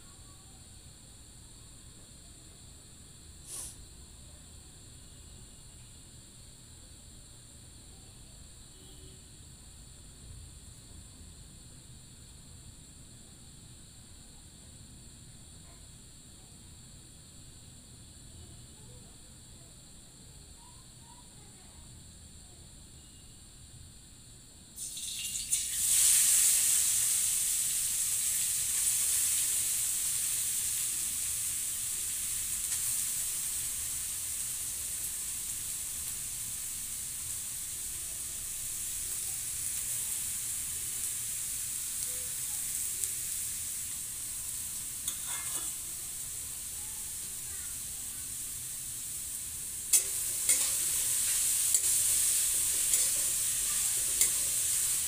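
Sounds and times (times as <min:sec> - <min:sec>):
food sizzling in hot fat: 0:00.0 - 0:18.9, 0:19.5 - 0:55.0.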